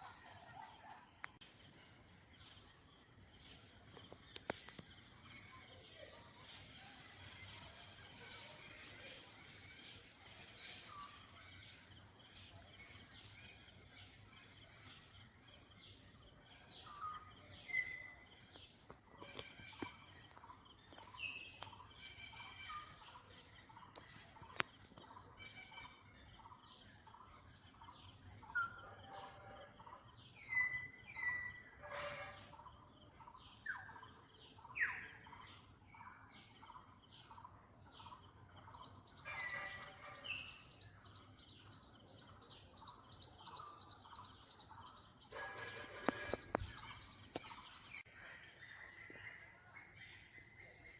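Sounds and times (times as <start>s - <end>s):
faint outdoor background: 0.0s - 50.9s
birds chirping: 1.6s - 50.9s.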